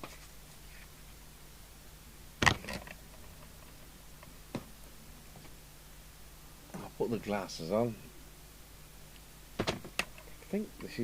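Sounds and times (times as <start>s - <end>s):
faint mains hum: 0.0s - 11.0s.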